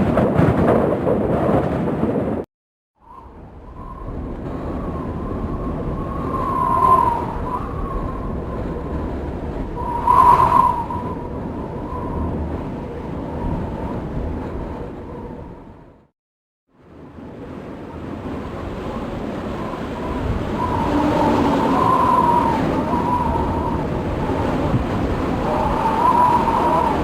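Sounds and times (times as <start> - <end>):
whistling wind gusts: 0.0 - 16.1, 16.7 - 27.0.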